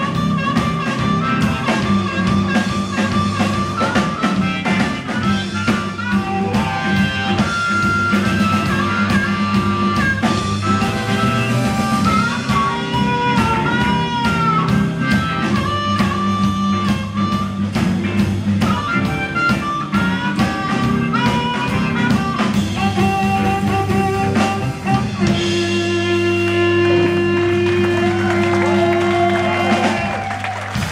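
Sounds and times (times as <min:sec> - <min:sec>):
amplified harmonica: 0:00.0 - 0:30.3
blues band playing: 0:00.0 - 0:30.9
drum kit: 0:00.0 - 0:30.9
electric guitar: 0:00.0 - 0:30.9.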